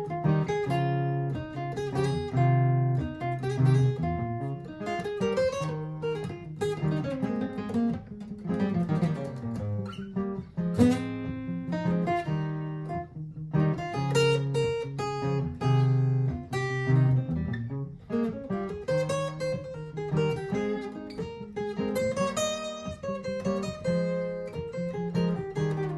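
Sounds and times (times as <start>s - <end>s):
acoustic guitar improvising: 0.0s - 25.9s
looped guitar part: 0.0s - 25.9s.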